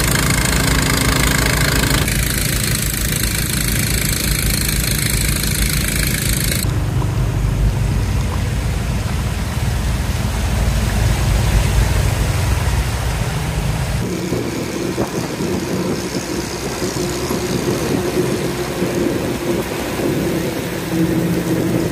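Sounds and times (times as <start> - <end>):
vehicle engine running: 0.0 - 21.9.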